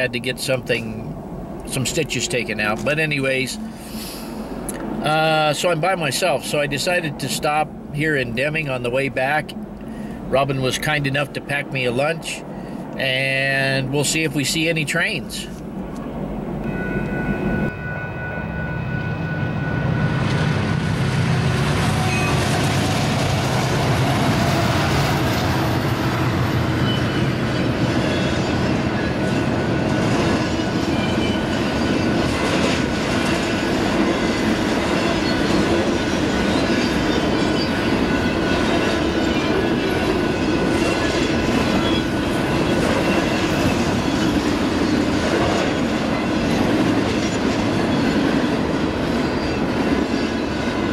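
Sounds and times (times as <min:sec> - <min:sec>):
freight train wheels rumbling on rail: 0:00.0 - 0:50.9.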